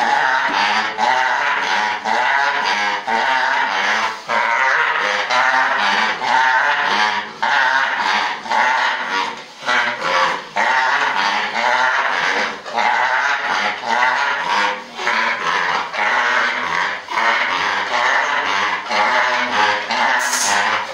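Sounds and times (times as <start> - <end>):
pigs squealing: 0.0 - 20.9.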